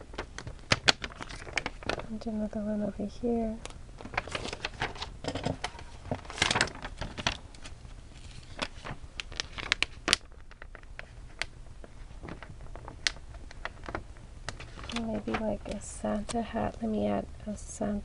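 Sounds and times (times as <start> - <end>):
paper crinkling and rustling: 0.0 - 2.3, 4.0 - 16.8.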